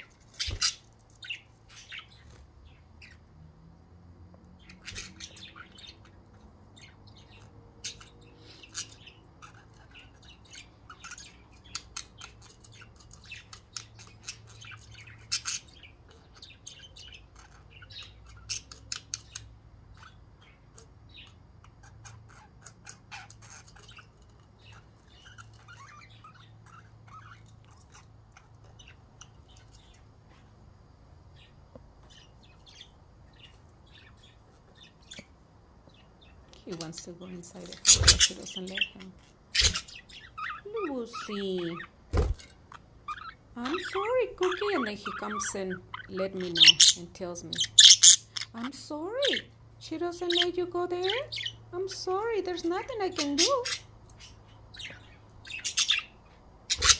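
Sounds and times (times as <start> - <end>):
budgerigars chirping and squawking: 0.0 - 3.3, 4.5 - 30.1, 31.4 - 56.9
faint low hum: 0.0 - 56.9.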